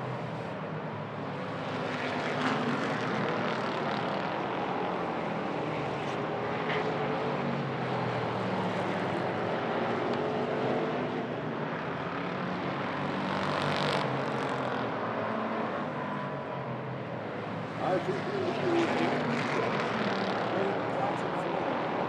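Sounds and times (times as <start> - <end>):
race car engines passing: 1.2 - 16.4, 17.0 - 22.0.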